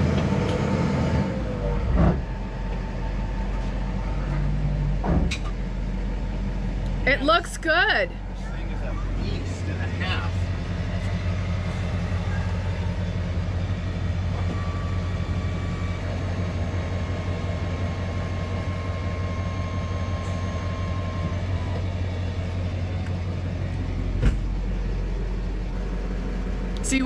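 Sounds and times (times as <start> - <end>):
pickup truck engine idling: 2.2 - 27.0.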